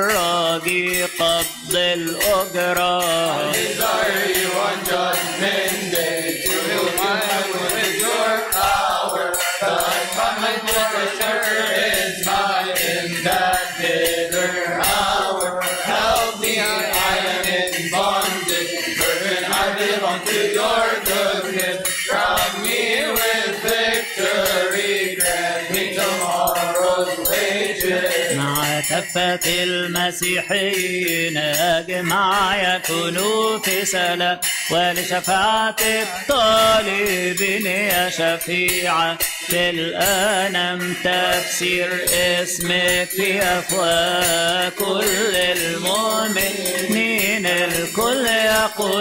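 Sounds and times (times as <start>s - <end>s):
chanters singing a hymn: 0.0s - 49.0s.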